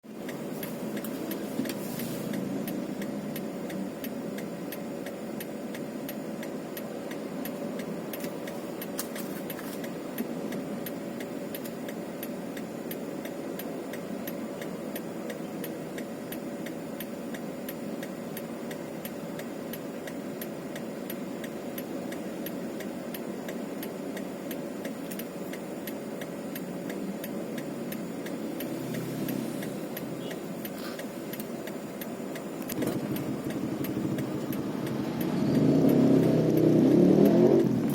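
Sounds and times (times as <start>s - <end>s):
regular ticking: 0.0s - 37.9s
vehicle engine running: 0.0s - 37.9s.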